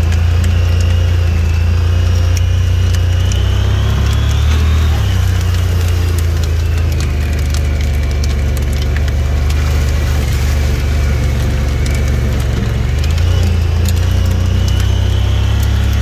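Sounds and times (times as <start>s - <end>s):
hail ticking on windshield: 0.0s - 16.0s
vehicle engine running: 0.0s - 16.0s.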